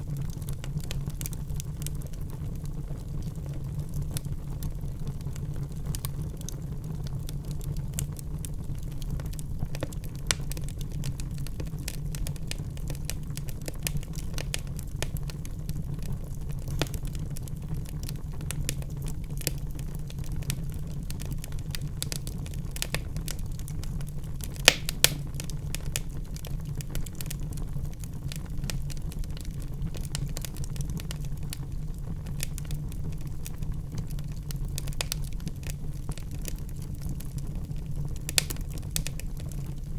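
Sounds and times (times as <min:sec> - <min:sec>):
fire crackling: 0:00.0 - 0:39.9
low rumble of fire: 0:00.0 - 0:39.9
loud fire pops: 0:03.2 - 0:39.9.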